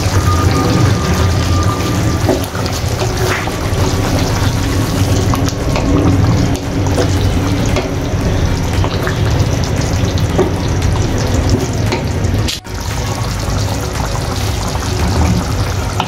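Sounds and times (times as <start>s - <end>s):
gravy bubbling and sizzling: 0.0s - 16.0s.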